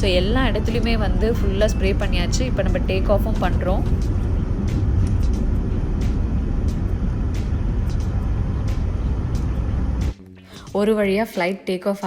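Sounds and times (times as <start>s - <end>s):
jet engines rumbling: 0.0s - 10.2s.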